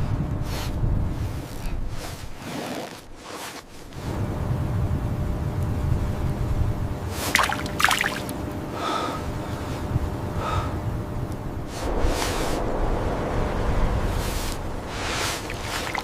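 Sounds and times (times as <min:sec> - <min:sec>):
wind rumble on microphone: 0:00.0 - 0:02.6, 0:03.9 - 0:16.0.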